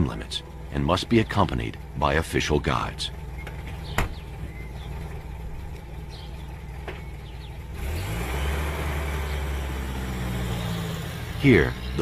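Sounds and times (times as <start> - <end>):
vehicle engine idling and revving: 0.0 - 12.0.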